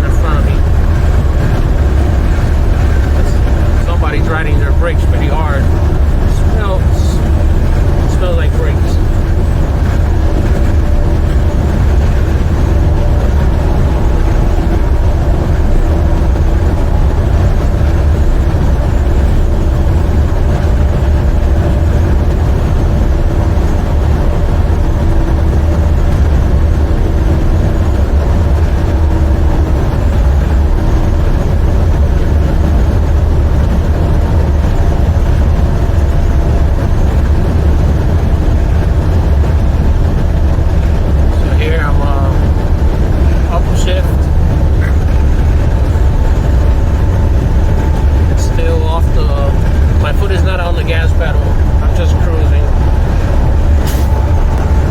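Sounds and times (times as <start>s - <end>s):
road noise: 0.0s - 54.9s
truck diesel engine drone: 0.0s - 54.9s.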